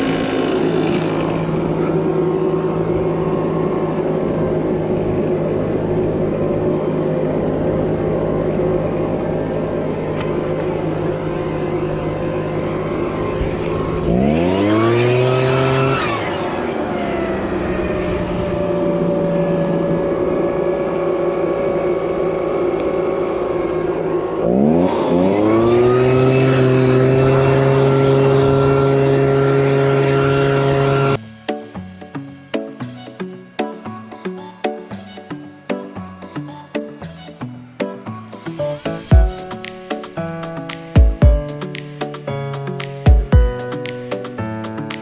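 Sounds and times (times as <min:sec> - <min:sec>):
leaf blower engine revving: 0:00.0 - 0:45.0.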